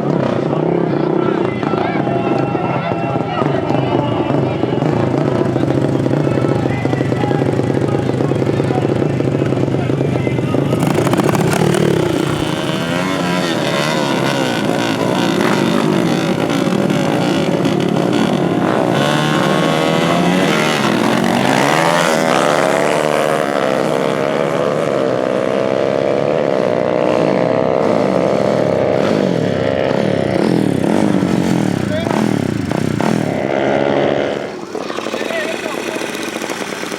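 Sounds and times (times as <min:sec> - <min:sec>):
dirt bike engines revving: 0:00.0 - 0:36.9.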